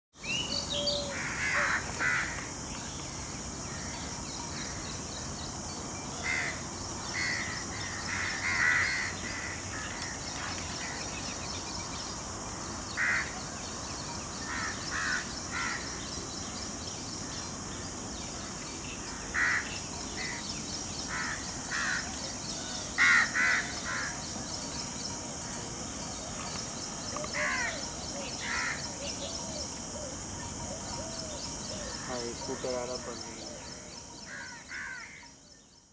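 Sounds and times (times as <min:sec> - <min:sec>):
steady high hiss: 0:00.2 - 0:35.9.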